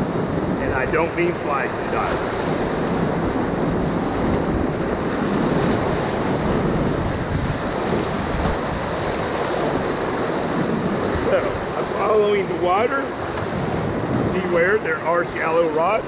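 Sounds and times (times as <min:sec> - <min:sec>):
whitewater rushing: 0:00.0 - 0:16.0
wind noise on microphone: 0:00.0 - 0:16.0.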